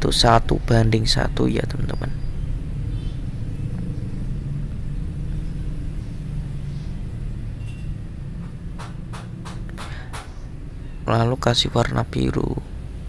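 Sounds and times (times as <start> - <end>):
engine running rumble: 0.0 - 13.0.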